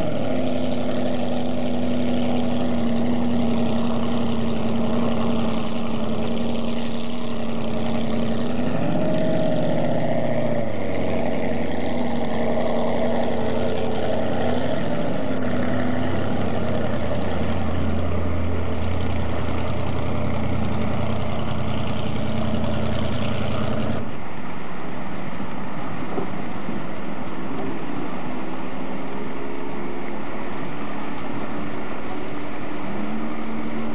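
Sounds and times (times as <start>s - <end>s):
motorboat engine running: 0.0s - 33.9s
rushing noise: 0.0s - 33.9s.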